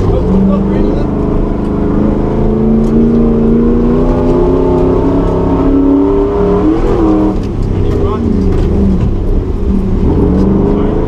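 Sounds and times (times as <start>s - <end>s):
car engine revving under load: 0.0s - 11.0s.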